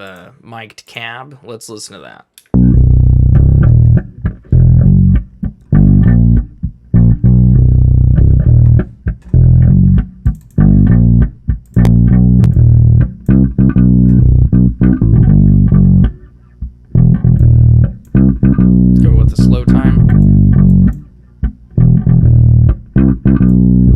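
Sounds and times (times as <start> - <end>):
electric bass guitar notes: 2.5 - 23.9.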